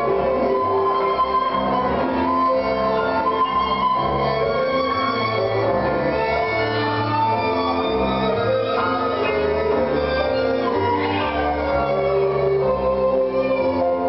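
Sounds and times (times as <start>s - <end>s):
tango music with violin: 0.0s - 14.0s.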